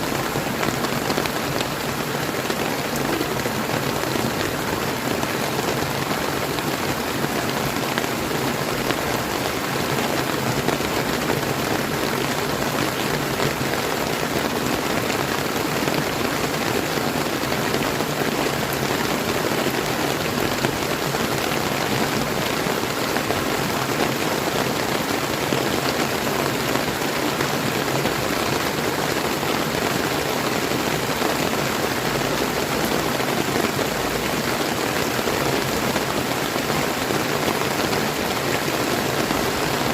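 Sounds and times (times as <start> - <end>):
flowing river water: 0.0 - 39.9
rain falling on water: 0.0 - 39.9.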